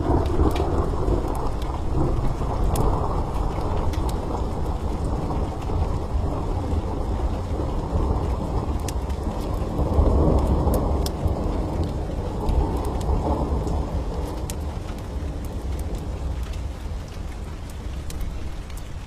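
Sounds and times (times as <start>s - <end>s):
thunder rolling: 0.0s - 16.4s
steady rain: 0.0s - 19.0s
wood fire crackling: 0.0s - 19.0s.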